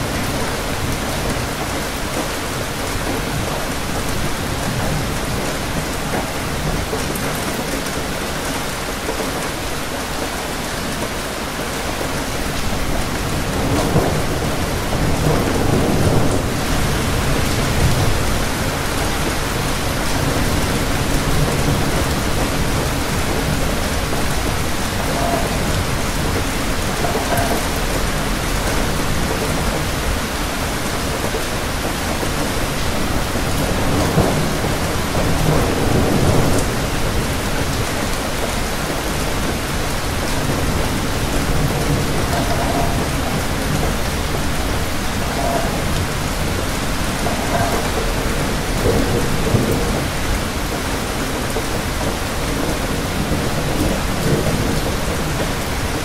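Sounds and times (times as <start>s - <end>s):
dense rain: 0.0s - 56.0s.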